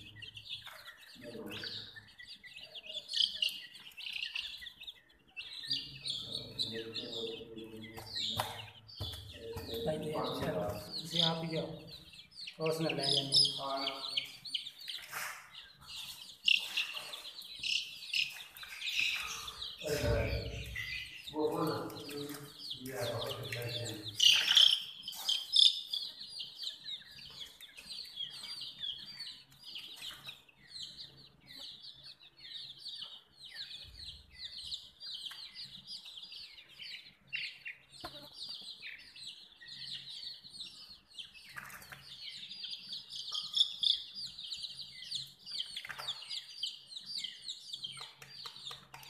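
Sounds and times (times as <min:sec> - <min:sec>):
baby chicks peeping: 0:00.0 - 0:49.0.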